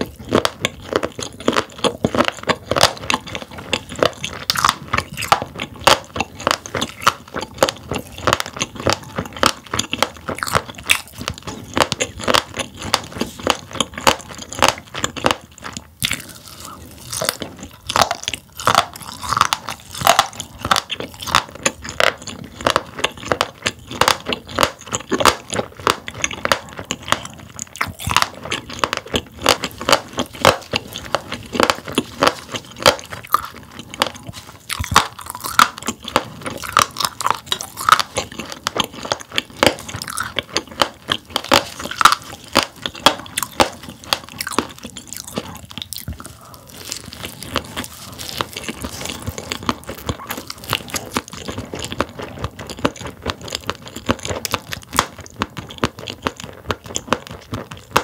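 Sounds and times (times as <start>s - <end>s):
chewing crunchy fish roe: 0.0s - 58.0s.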